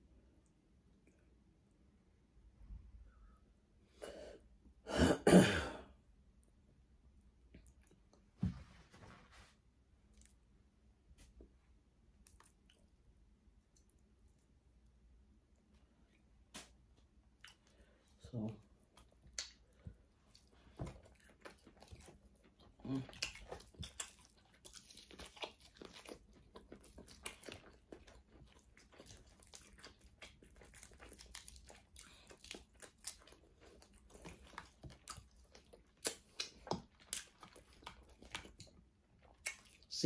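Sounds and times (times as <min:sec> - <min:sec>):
chewing and crunching food: 0:06.1 - 0:08.4, 0:09.8 - 0:40.0.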